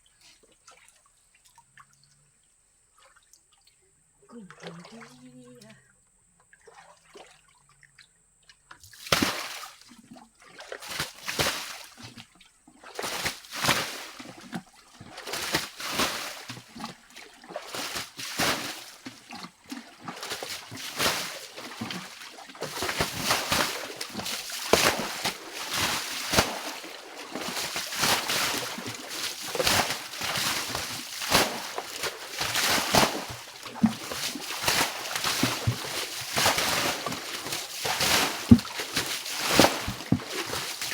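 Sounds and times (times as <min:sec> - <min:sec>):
water splashing and sloshing: 0:00.1 - 0:05.7, 0:06.4 - 0:40.9.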